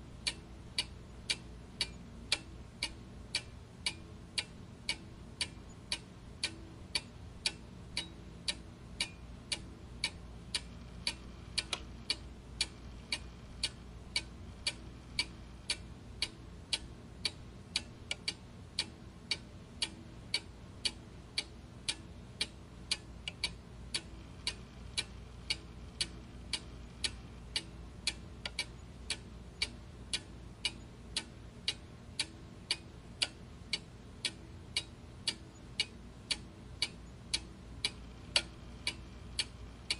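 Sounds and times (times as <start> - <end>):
faint low hum: 0.0 - 39.9
clock ticking: 0.2 - 39.9.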